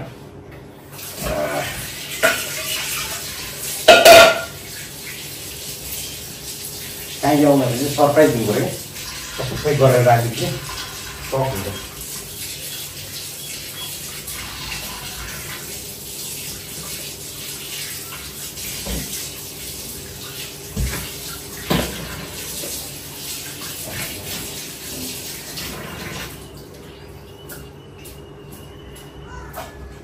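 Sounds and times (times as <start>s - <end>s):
tap water running: 0.8s - 30.0s.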